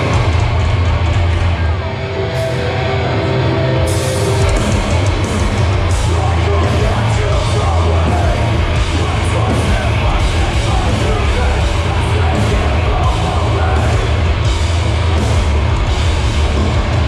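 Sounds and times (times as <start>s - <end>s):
distorted guitar and bass: 0.0s - 17.0s
drums and cymbals crashing: 0.0s - 17.0s.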